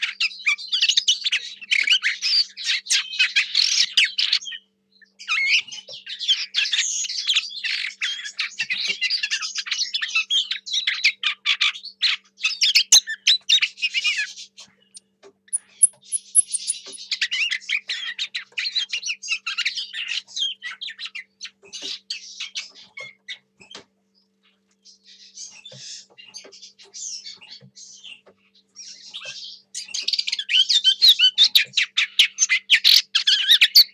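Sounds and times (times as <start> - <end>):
bird singing rapid warble: 0.0 - 33.9.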